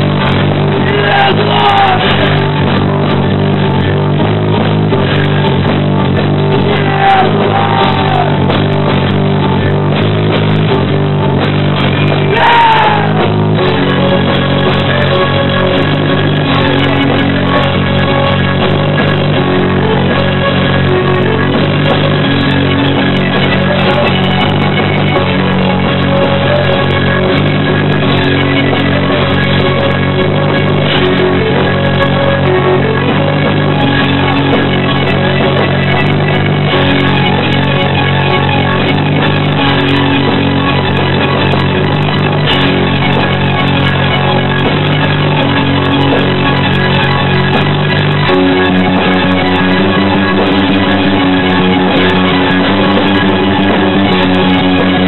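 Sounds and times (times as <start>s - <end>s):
drum kit: 0.0s - 55.0s
electric guitar: 0.0s - 55.0s
rock band playing loudly: 0.0s - 55.0s.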